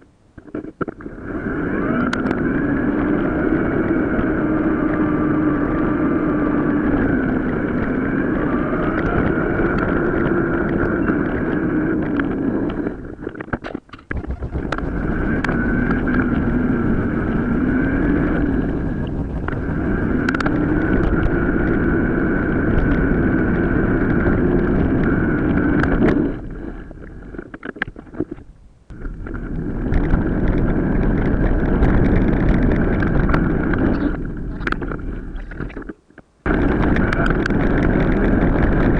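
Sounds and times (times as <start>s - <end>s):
bike whine: 0.0s - 38.9s
tyre noise: 0.4s - 38.9s
wind rumble: 0.6s - 38.9s.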